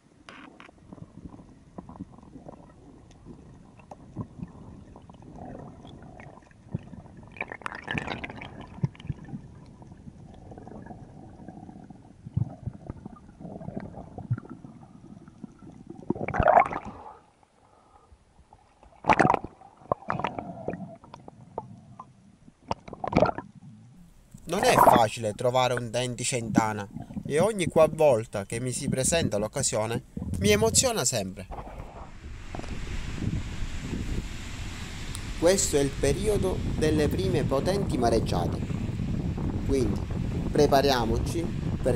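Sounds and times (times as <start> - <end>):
water gurgling: 0.0 - 17.6, 18.4 - 41.9
underwater rumble: 0.0 - 41.9.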